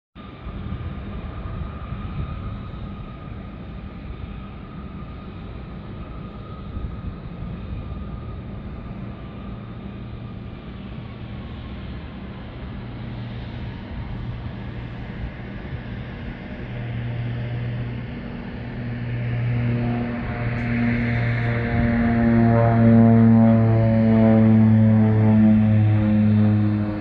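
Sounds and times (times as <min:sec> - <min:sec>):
distant turboprop engines running: 0:00.2 - 0:27.0.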